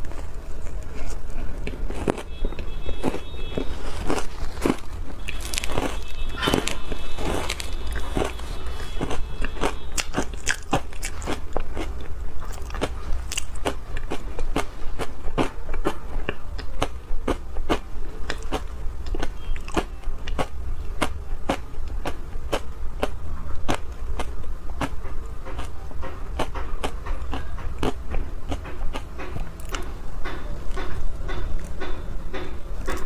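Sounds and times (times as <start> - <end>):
chewing crunchy ice: 0.0 - 29.9.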